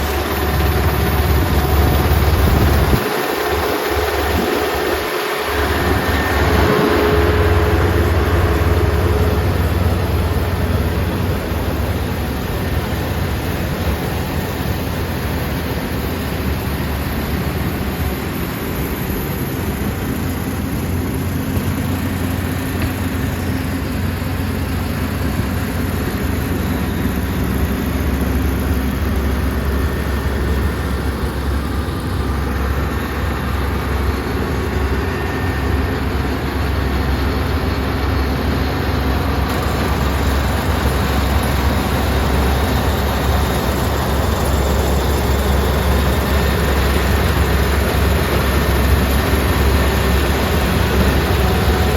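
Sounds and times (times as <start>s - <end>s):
combine harvester engine humming: 0.0s - 51.9s.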